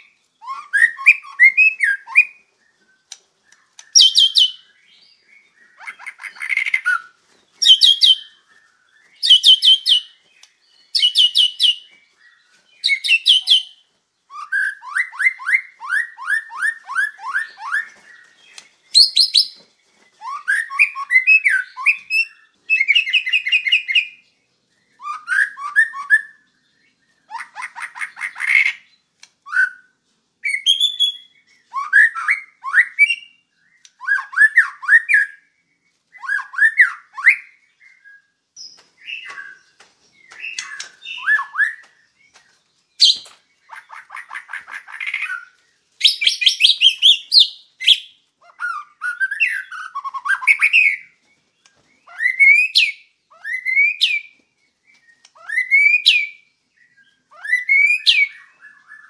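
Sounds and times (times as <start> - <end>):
bird singing whistled chattering phrases: 0.0 - 2.4, 3.0 - 12.0, 12.8 - 19.6, 20.2 - 24.2, 30.5 - 35.4, 36.2 - 59.0.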